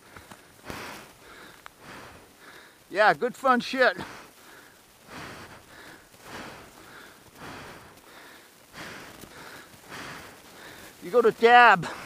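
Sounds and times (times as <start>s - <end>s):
person breathing hard: 0.0s - 2.9s, 3.9s - 11.0s, 11.8s - 12.0s.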